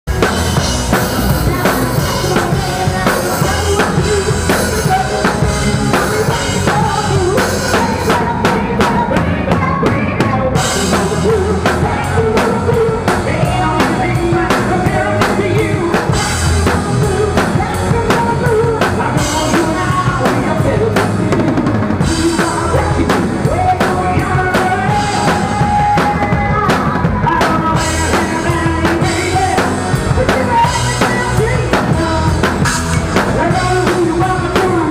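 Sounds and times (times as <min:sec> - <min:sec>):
loud rock band: 0:00.0 - 0:34.9
rock drum kit: 0:00.0 - 0:34.9.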